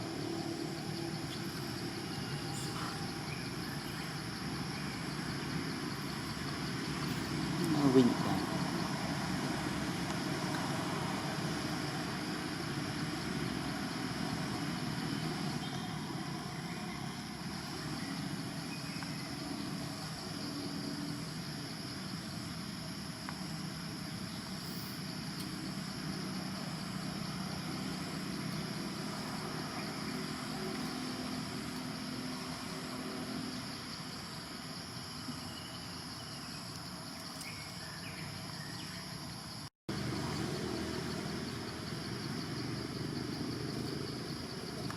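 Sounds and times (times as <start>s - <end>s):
high-pitched insect drone: 0.0s - 44.9s.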